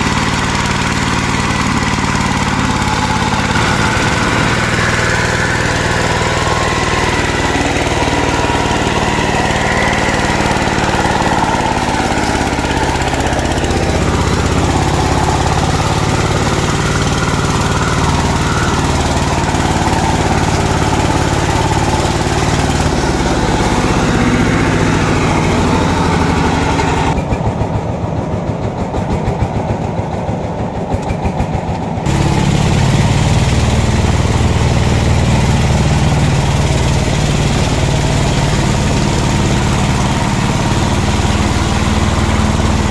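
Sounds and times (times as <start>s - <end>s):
diesel engine running under load: 0.0s - 42.9s
wheels churning in mud: 0.0s - 42.9s.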